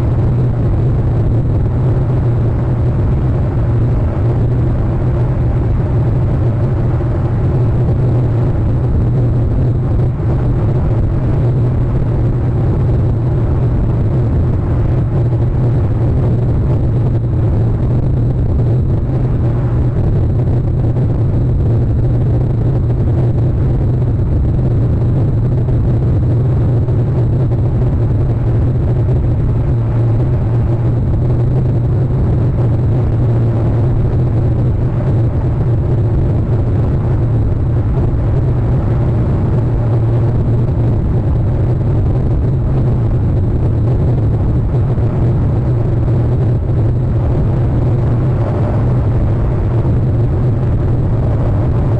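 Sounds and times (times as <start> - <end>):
low outdoor rumble: 0.0 - 51.9.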